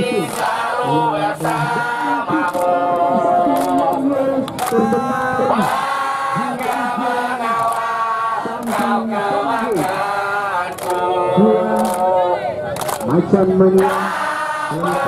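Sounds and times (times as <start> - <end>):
crowd chanting: 0.0 - 15.0.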